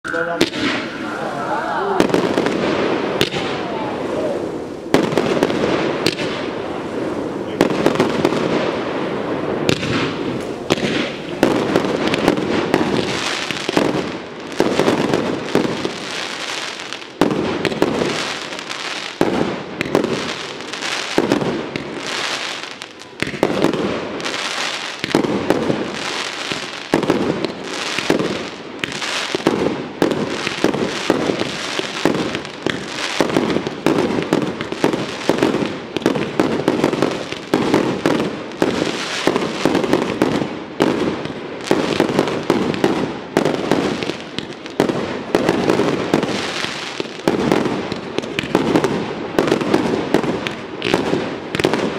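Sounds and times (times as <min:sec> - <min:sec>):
fireworks bursting with sharp bangs: 0:00.0 - 0:51.9
fireworks hissing rush: 0:00.0 - 0:51.9.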